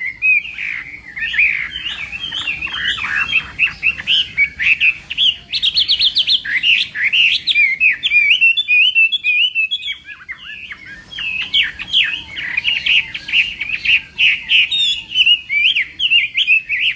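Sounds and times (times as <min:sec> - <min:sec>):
bird singing whistled notes: 0:00.0 - 0:16.9.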